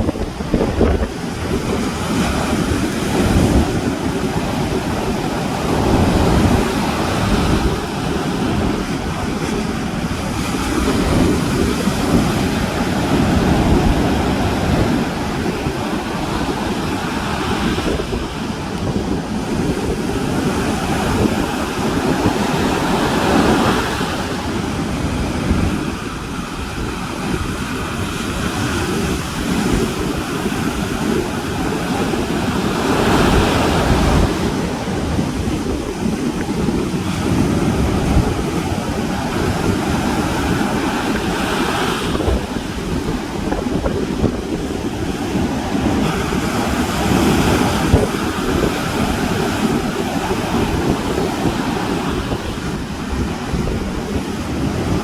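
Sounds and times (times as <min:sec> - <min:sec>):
sea waves breaking on shore: 0:00.0 - 0:55.0
wind buffeting microphone: 0:00.0 - 0:55.0.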